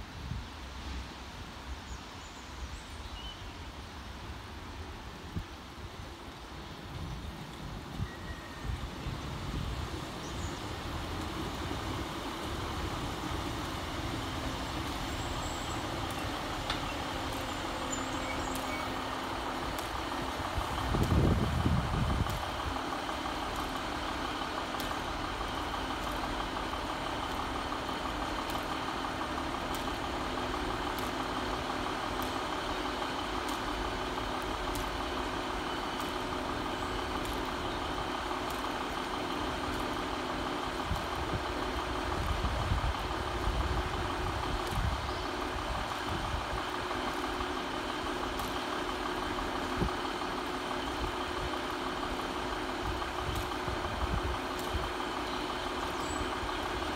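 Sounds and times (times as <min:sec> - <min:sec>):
diesel engines idling: 0:00.0 - 0:56.9.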